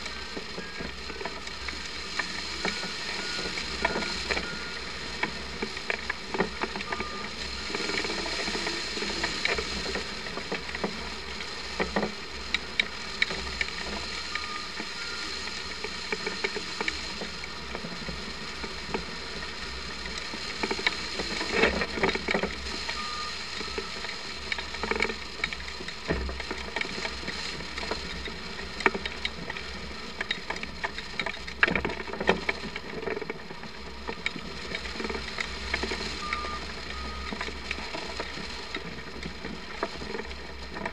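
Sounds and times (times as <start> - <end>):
rattling clicks of glider frame: 0.0 - 40.9.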